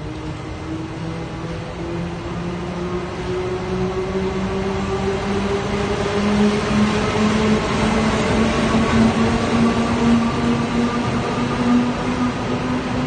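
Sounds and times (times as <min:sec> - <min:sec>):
electric locomotive humming: 0:00.0 - 0:13.0.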